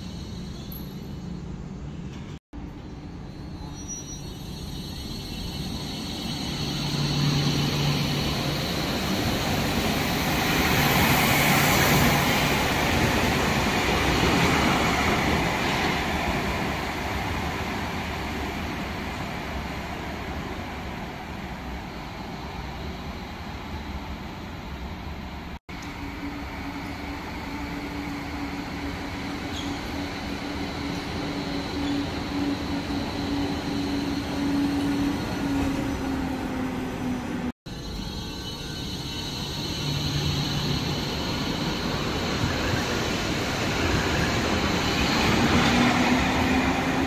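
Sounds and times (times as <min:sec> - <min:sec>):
tram passing: 0:00.0 - 0:47.0.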